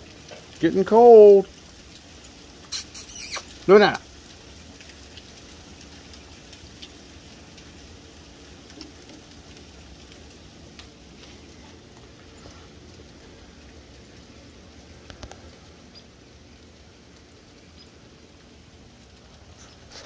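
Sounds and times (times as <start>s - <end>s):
hail pattering: 0.0s - 20.0s
faint scattered ticks: 1.5s - 20.0s.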